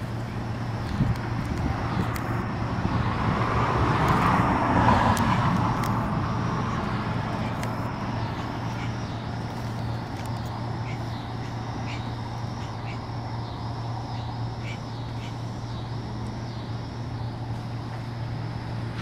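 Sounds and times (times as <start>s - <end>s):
road vehicle passing: 0.0s - 19.0s
steady low hum: 0.0s - 19.0s.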